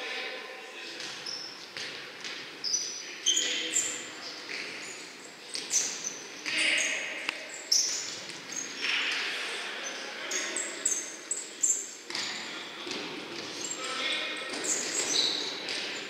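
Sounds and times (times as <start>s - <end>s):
shoes squeaking on court: 1.0s - 8.9s, 9.8s - 16.0s.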